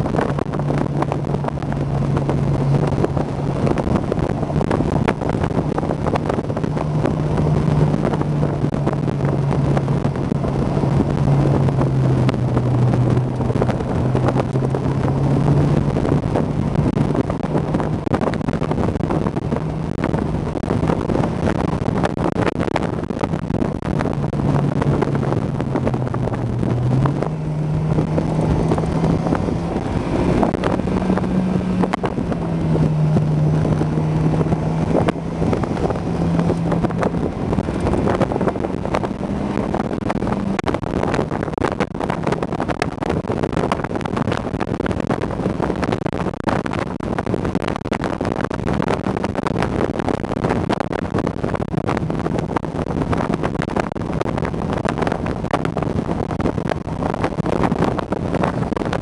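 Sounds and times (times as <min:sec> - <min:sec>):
car engine running: 0:00.0 - 0:59.0
wind buffeting microphone: 0:00.0 - 0:59.0.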